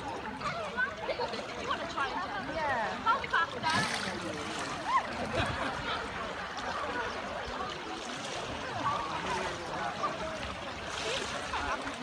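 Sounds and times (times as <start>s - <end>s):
distant swimmers calling and chatting: 0.0s - 12.0s
water splashing and lapping: 0.0s - 12.0s.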